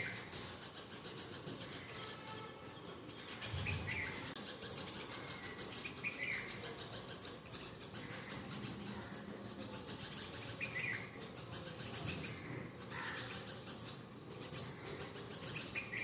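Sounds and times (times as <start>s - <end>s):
bird calling: 0.0s - 16.0s.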